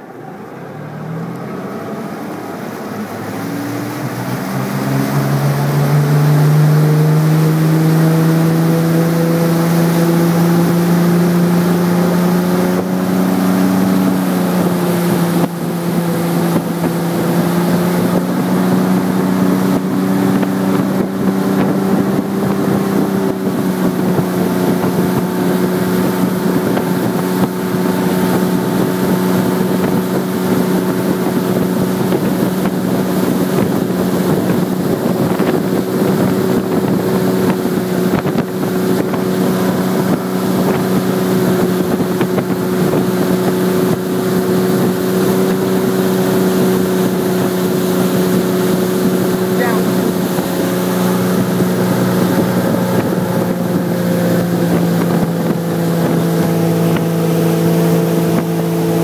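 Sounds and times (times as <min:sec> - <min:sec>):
boat engine accelerating: 0:00.0 - 0:59.0.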